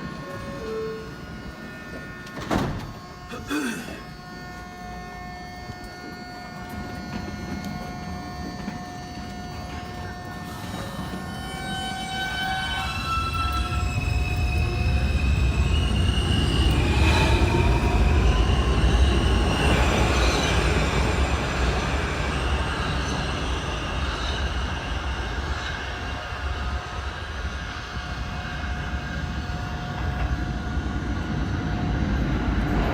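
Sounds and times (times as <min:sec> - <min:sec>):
subway train rumble: 0:00.0 - 0:32.9.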